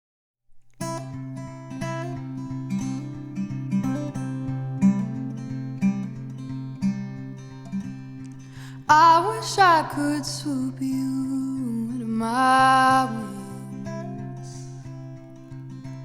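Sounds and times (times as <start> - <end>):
acoustic guitar picking: 0.7 - 16.0.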